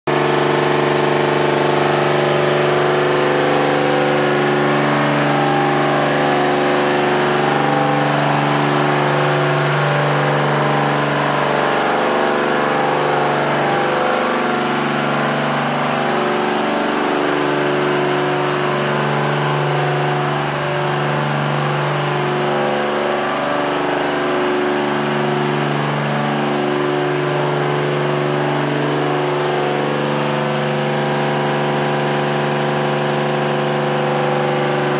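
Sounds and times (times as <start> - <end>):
machine hum: 0.1 - 34.9.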